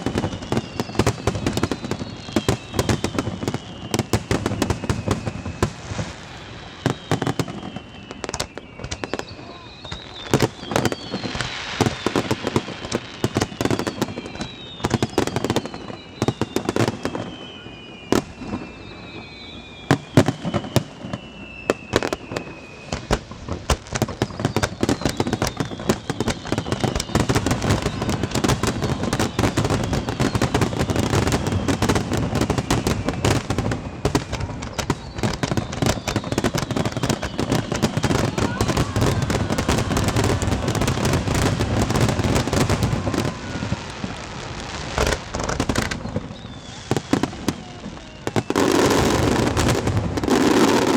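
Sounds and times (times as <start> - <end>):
fireworks bangs and crackles: 0.0 - 50.9
fireworks whistles: 0.0 - 50.9.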